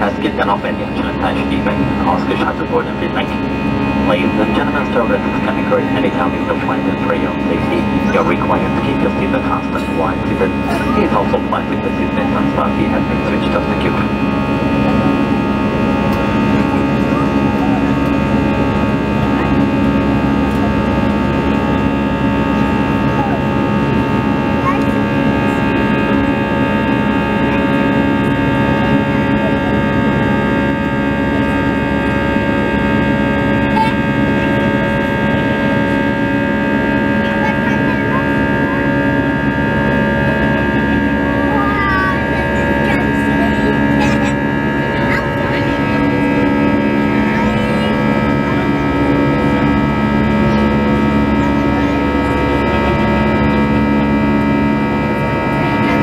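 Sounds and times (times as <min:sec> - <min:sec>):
humming and whining tones: 0:00.0 - 0:56.0
jet engines droning: 0:00.0 - 0:56.0.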